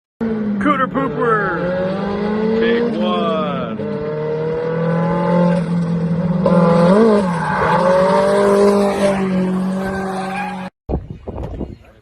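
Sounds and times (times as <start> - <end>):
race car engines at high revs: 0.2 - 10.7.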